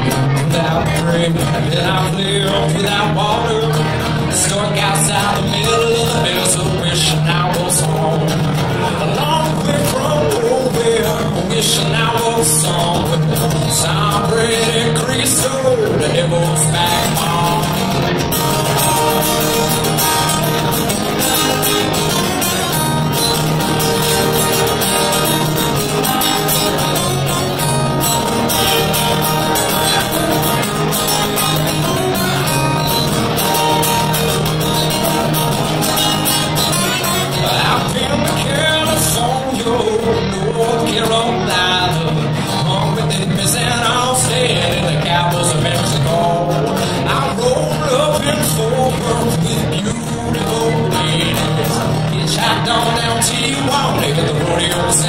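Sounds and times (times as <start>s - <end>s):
acoustic guitars playing country: 0.0s - 55.0s.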